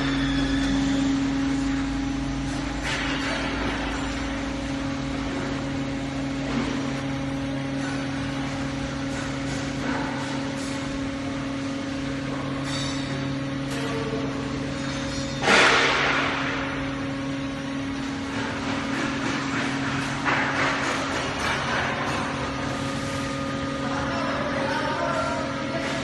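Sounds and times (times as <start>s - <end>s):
hydraulic press humming: 0.0s - 26.0s.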